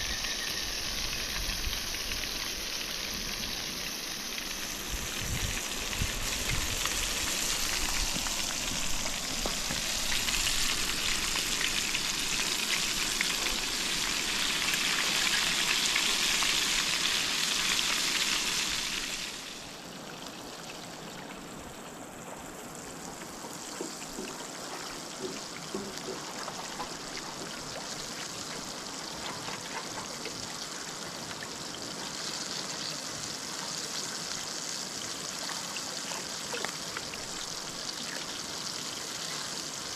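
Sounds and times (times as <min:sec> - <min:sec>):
fish frying in a pan: 0:00.0 - 0:20.8, 0:22.6 - 0:39.9.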